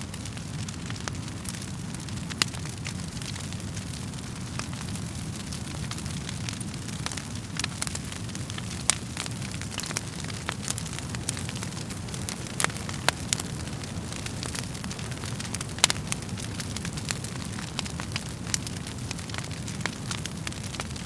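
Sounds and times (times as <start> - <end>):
burning logs crackling and popping: 0.0 - 21.0
low rumble of flames: 0.0 - 21.0.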